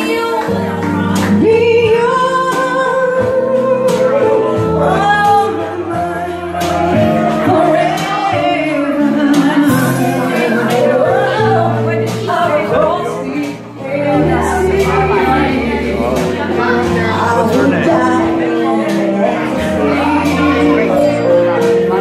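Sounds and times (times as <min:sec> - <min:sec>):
electric keyboard accompaniment: 0:00.0 - 0:22.0
woman singing into a microphone: 0:00.0 - 0:22.0.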